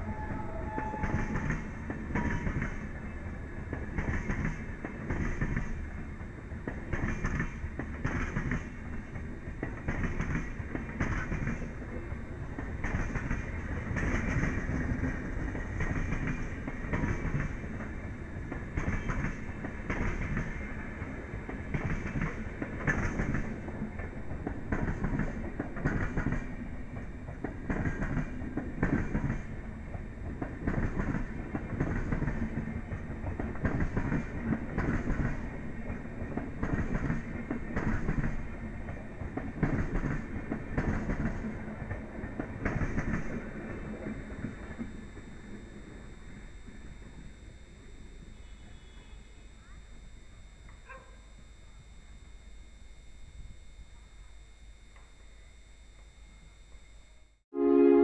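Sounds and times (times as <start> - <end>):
train wheels clickety-clack: 0.0 - 47.3
train rumble: 0.0 - 50.2.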